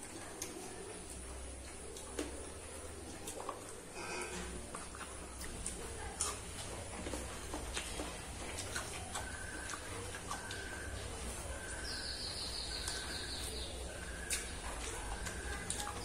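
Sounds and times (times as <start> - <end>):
chewing with wet smacks: 0.0 - 16.0.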